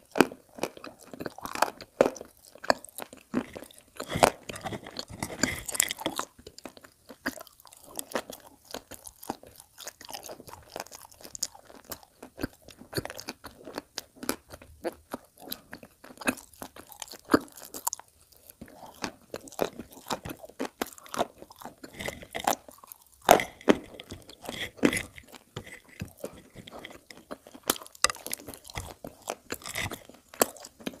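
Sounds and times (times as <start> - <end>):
chewing and crunching chalk: 0.0 - 31.0.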